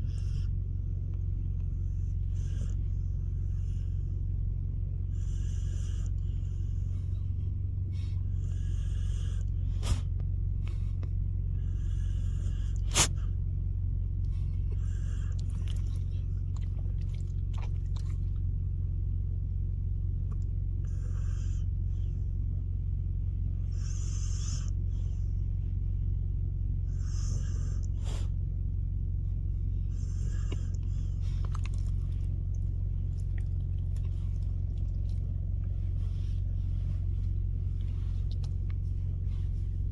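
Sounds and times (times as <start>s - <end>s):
husky snoring breath: 0.0s - 0.8s, 1.5s - 4.4s, 5.0s - 13.4s, 14.2s - 18.4s, 20.7s - 22.4s, 23.4s - 25.8s, 26.7s - 28.4s, 29.6s - 39.9s
steady low rumble: 0.0s - 39.9s.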